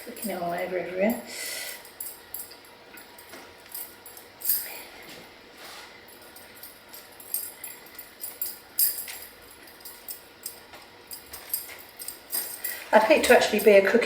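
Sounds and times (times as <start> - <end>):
metal bracelets jingling: 0.0 - 0.7, 1.7 - 5.0, 6.1 - 14.0.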